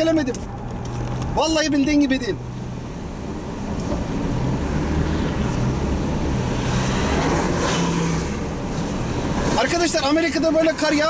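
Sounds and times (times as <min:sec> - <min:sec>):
car engine hum and road noise: 0:00.0 - 0:11.0
passing traffic rush: 0:00.0 - 0:11.0.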